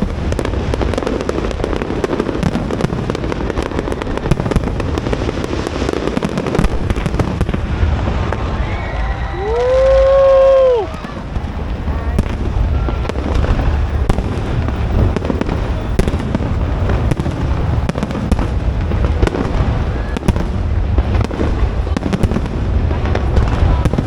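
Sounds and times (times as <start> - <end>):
fireworks popping and crackling: 0.0 - 24.0
fireworks rumbling bursts: 0.0 - 24.0.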